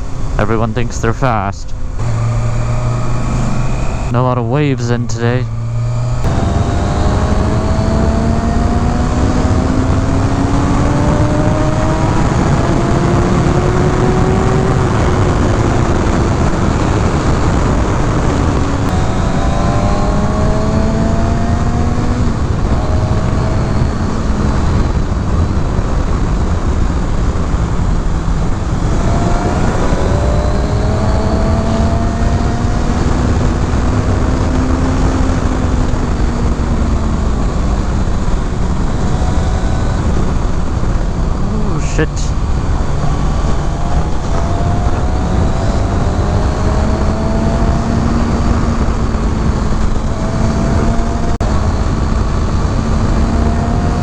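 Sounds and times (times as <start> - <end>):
wind and road noise: 0.0 - 54.0
motorcycle engine revving: 1.8 - 54.0.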